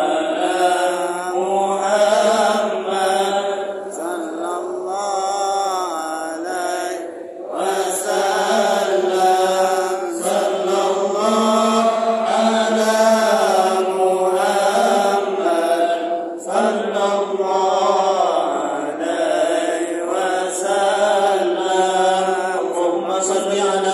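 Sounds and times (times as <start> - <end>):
men chanting together: 0.0 - 23.9.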